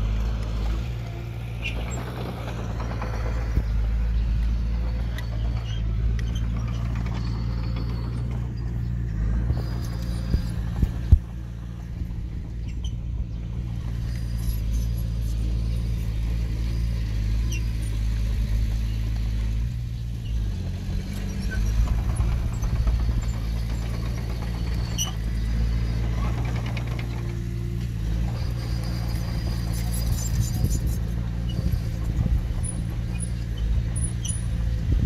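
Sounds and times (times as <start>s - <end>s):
heavy machinery diesel engine running: 0.0s - 35.0s.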